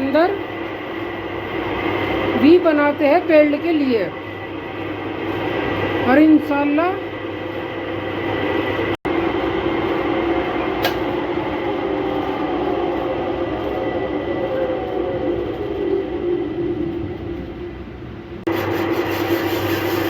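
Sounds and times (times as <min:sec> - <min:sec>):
metal lathe running: 0:00.0 - 0:16.5, 0:18.5 - 0:20.0.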